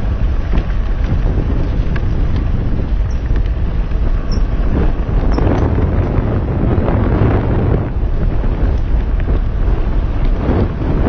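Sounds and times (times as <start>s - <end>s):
bike clicks and rattles: 0.0s - 11.0s
wind buffeting microphone: 0.0s - 11.0s.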